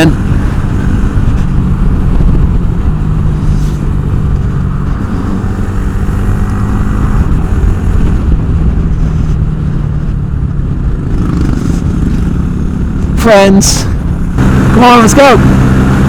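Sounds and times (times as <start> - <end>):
motorcycle engine cruising: 0.0 - 16.0
wind rush on microphone: 0.0 - 16.0.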